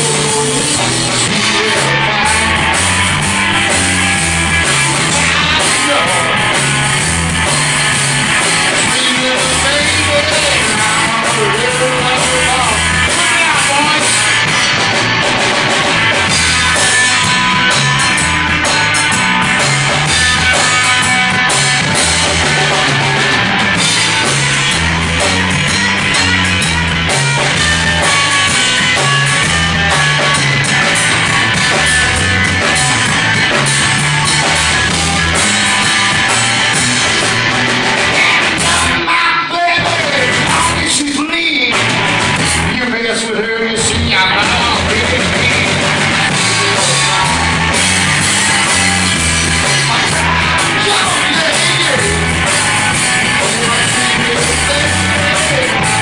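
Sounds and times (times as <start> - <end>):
blues rock band playing: 0.0 - 56.0
overdriven electric guitar lead: 0.0 - 56.0
repeating bass line: 0.0 - 56.0.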